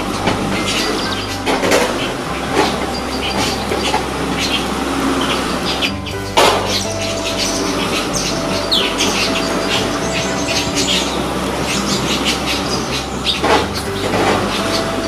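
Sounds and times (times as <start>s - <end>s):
birds chirping: 0.0s - 15.0s
low hum: 0.0s - 15.0s.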